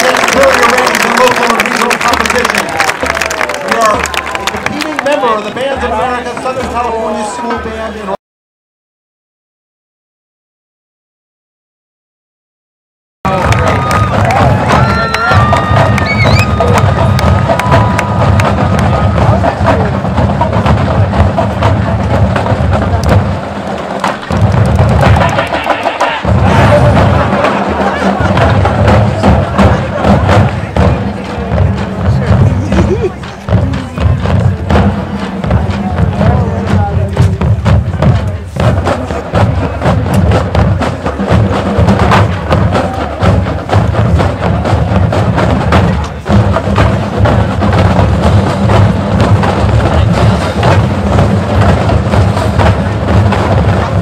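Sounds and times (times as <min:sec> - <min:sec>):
drums and percussion: 0:00.0 - 0:08.2, 0:13.2 - 0:54.0
marching band playing: 0:00.0 - 0:08.2, 0:13.3 - 0:54.0.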